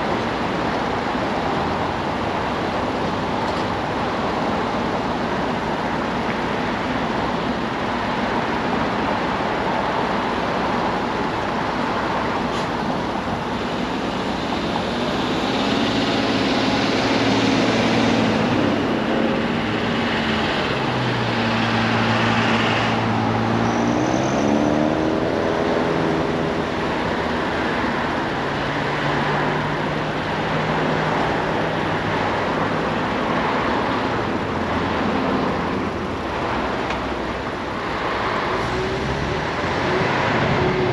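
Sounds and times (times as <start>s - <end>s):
passing traffic noise: 0.0s - 40.9s
steady engine hum: 0.0s - 40.9s
vehicles pulling away: 0.0s - 40.9s.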